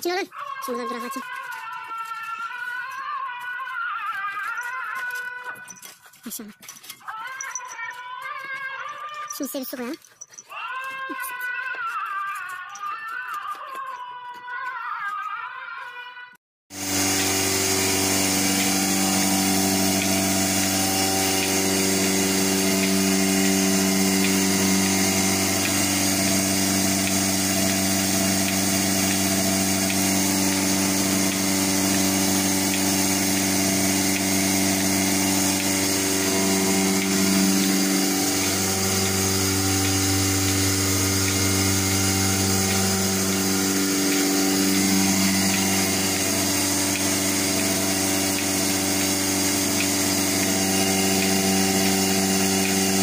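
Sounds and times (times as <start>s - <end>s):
motor humming: 0.0s - 14.6s, 16.7s - 53.0s.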